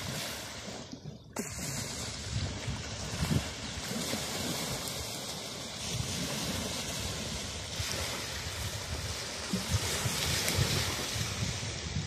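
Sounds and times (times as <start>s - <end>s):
small waves washing on beach: 0.0s - 12.0s
wind buffeting microphone: 1.0s - 12.0s.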